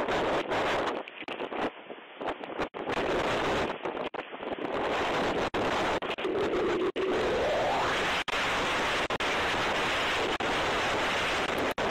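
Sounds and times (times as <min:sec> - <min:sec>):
strong wind on microphone: 0:00.0 - 0:11.9.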